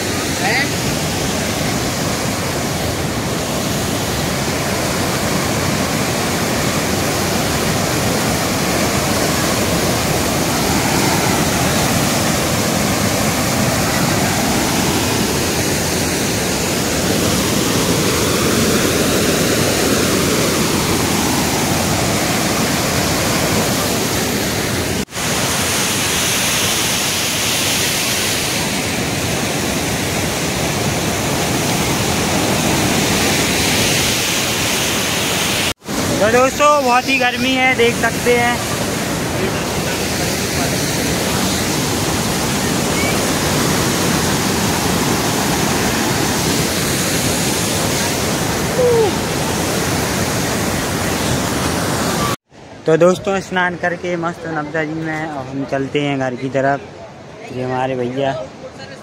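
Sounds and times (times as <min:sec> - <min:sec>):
waterfall rushing over rock: 0:00.0 - 0:52.4.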